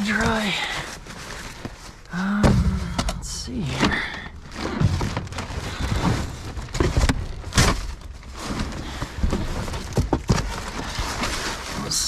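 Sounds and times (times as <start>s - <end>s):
trash rummaged in dumpster: 0.0s - 12.0s.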